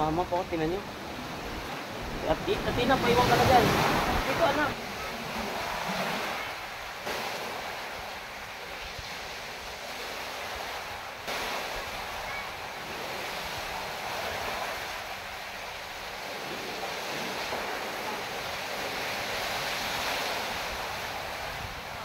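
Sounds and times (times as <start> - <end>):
waves washing on rocky shore: 0.0 - 22.0.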